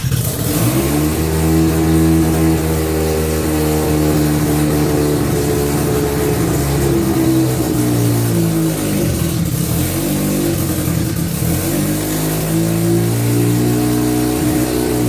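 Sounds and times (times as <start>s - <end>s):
rotary engine running: 0.0s - 15.0s.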